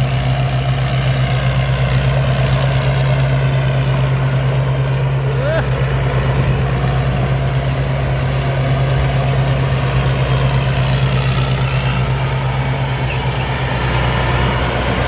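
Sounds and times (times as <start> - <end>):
combine harvester engine drone: 0.0 - 15.0
high whine: 0.0 - 15.0.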